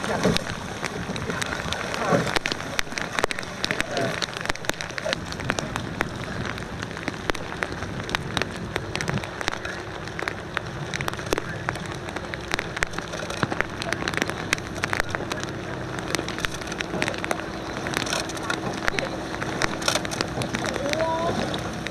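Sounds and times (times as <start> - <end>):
rain falling: 0.0 - 21.9.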